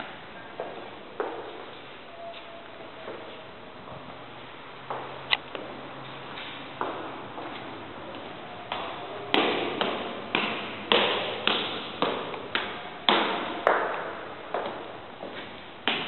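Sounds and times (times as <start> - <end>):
footsteps on tiled stairs: 0.0 - 16.0.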